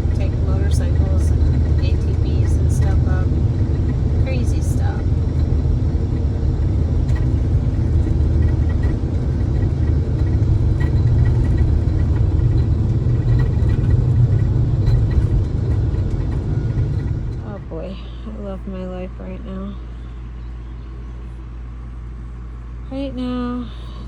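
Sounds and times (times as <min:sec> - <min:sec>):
engine drone: 0:00.0 - 0:24.0
road rumble: 0:00.0 - 0:24.0.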